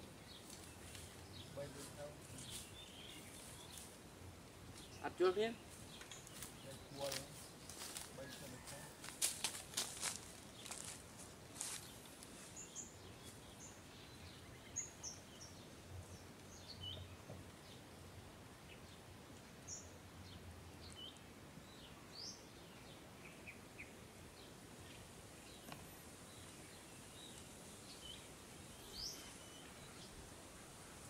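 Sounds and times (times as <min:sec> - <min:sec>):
background hiss: 0:00.0 - 0:31.0
small birds chirping: 0:00.0 - 0:31.0.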